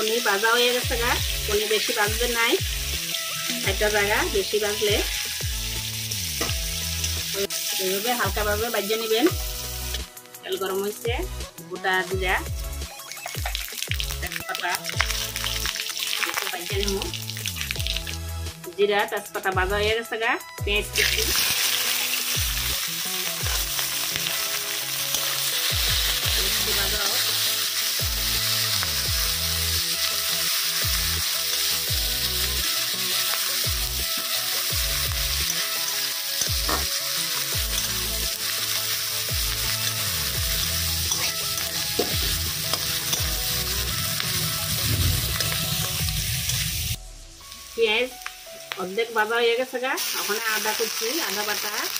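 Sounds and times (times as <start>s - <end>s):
onions sizzling in hot oil: 0.0s - 11.0s, 12.2s - 18.3s, 20.8s - 51.9s.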